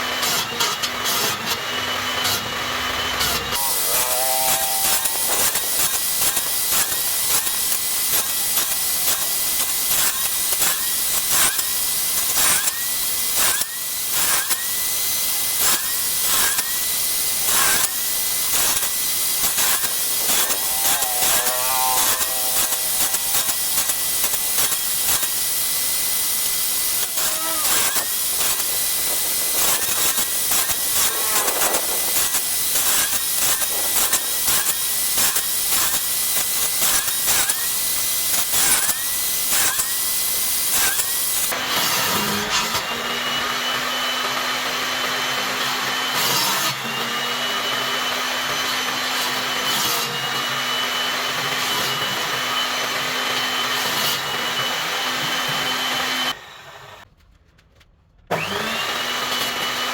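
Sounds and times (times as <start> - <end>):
power tool cutting wood: 0.0 - 57.1, 58.3 - 59.9.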